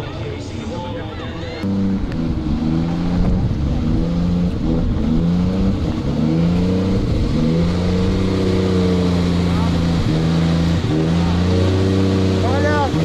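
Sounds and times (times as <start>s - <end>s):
car engine revving hard: 1.6s - 13.0s.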